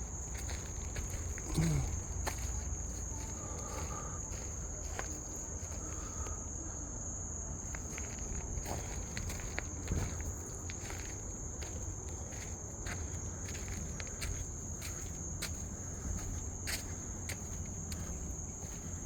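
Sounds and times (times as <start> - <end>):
footsteps scuffing on a trail: 0.0 - 6.0, 7.7 - 19.0
night insects trilling: 0.0 - 19.0.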